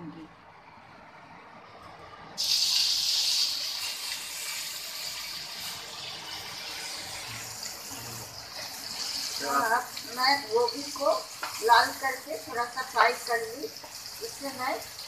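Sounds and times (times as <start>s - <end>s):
vegetables sizzling in hot oil: 2.4s - 15.0s.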